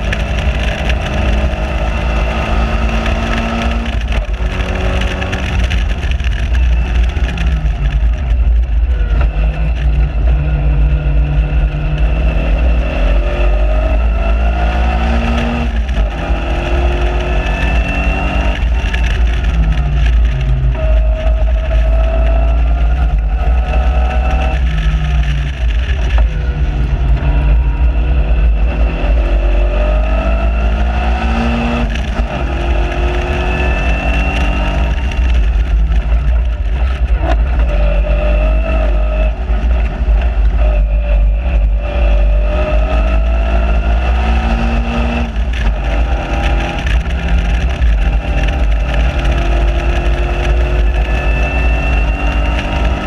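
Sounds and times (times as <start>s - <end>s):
car engine revving: 0.0s - 53.0s
wind rumble on microphone: 0.0s - 53.0s.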